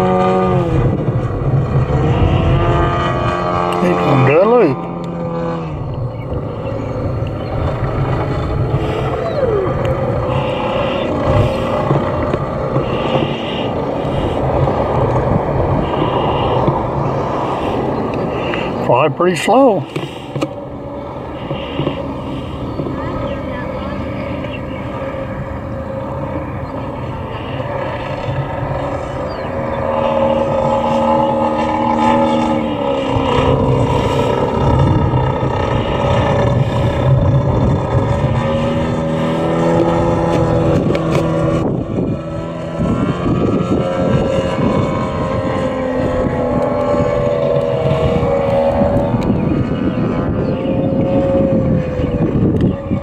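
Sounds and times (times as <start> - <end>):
model airplane engine droning: 0.0 - 53.0.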